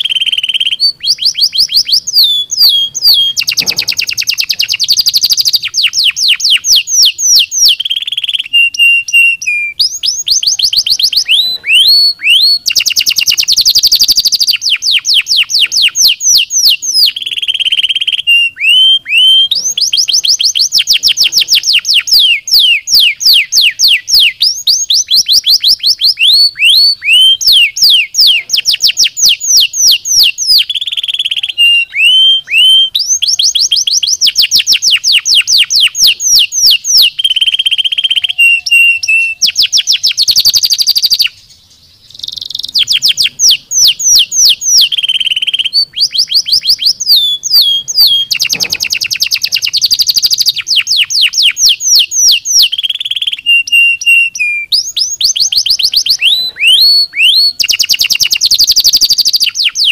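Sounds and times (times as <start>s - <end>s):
canary singing rapid trills: 0.0s - 59.9s.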